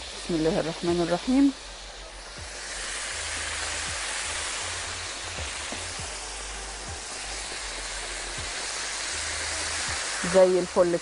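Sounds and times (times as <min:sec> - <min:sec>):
meat sizzling in frying oil: 0:00.0 - 0:11.0.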